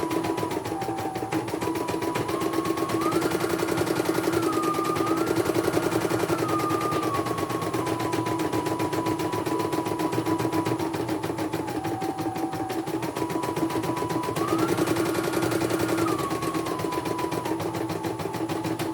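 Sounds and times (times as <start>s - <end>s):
machine motor whine: 0.0s - 18.9s.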